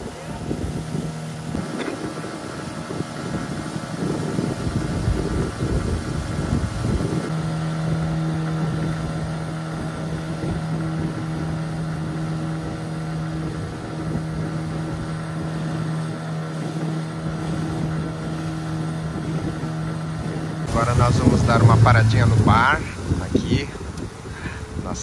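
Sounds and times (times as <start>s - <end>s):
motorboat engine humming: 0.0s - 25.0s
wind and water spray: 0.0s - 25.0s.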